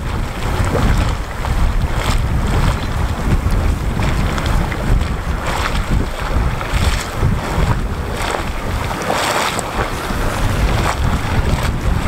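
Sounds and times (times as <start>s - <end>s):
boiling mud bubbling: 0.0s - 12.0s
wind buffeting microphone: 0.0s - 12.0s.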